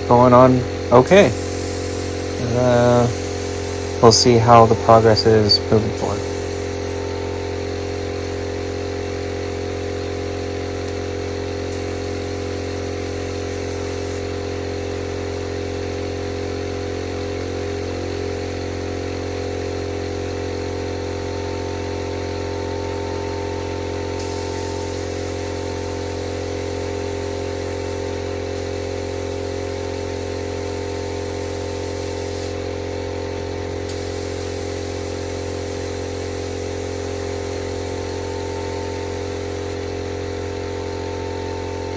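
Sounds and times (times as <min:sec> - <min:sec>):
air compressor motor humming: 0:00.0 - 0:41.9.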